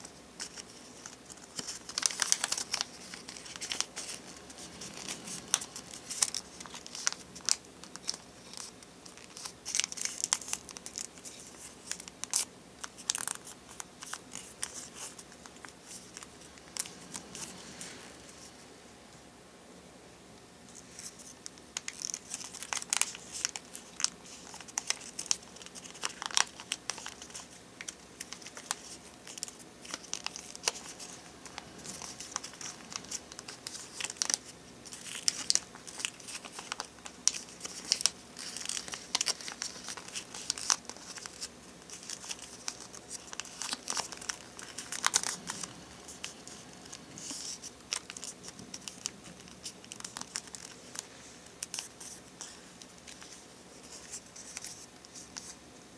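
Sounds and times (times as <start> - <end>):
paper being folded and creased: 0.0 - 18.6, 20.8 - 55.6.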